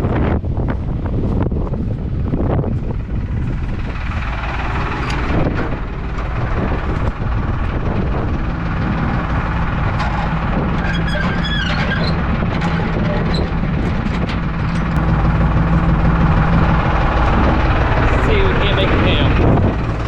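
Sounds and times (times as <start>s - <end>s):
tractor engine rumble: 0.0s - 20.0s
wind on microphone: 0.0s - 20.0s.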